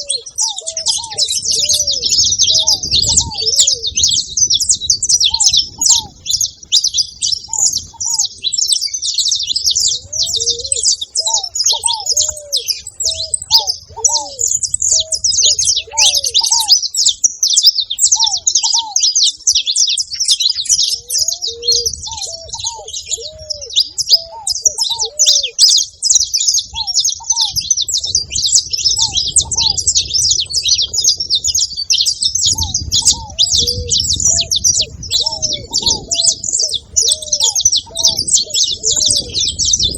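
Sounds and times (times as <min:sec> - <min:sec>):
finch chattering and singing: 0:00.0 - 0:39.9
lower rising and falling bird calls: 0:00.0 - 0:39.9.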